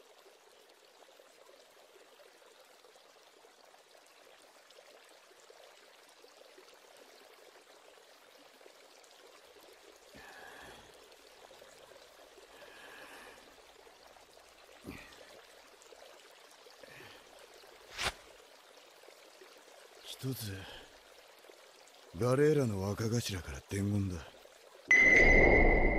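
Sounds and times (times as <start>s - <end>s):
faint steady hiss: 0.0s - 25.9s.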